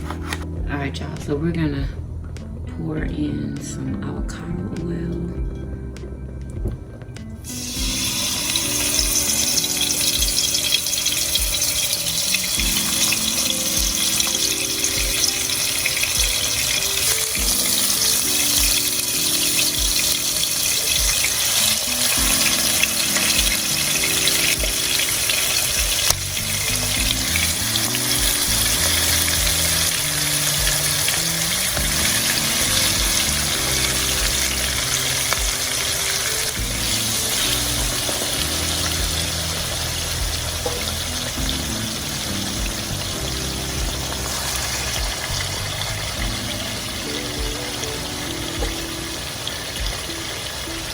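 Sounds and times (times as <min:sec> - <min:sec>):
background music: 0:00.0 - 0:50.9
food sizzling in oil: 0:07.4 - 0:50.9.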